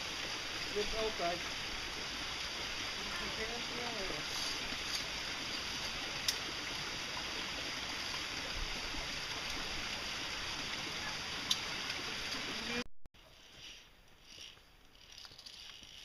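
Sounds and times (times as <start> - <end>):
mountain stream rushing: 0.0 - 12.8.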